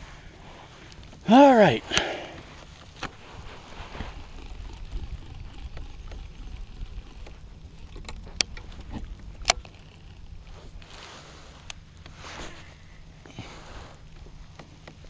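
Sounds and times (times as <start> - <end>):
water and wind rumble: 0.0 - 15.0.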